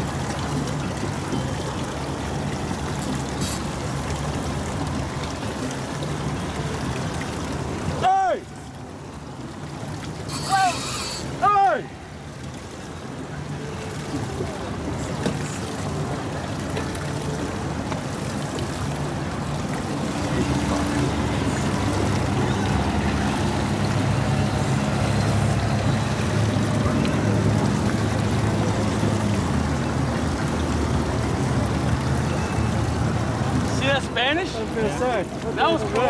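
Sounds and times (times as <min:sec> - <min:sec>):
motorboat engine running: 0:00.0 - 0:33.8
water noise: 0:00.0 - 0:36.0
wind: 0:00.0 - 0:36.0.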